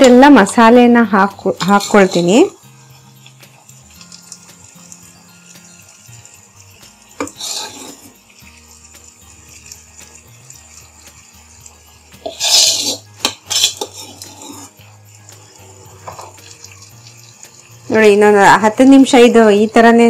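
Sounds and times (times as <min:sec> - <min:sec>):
spoon scraping frying pan: 0:01.3 - 0:17.8.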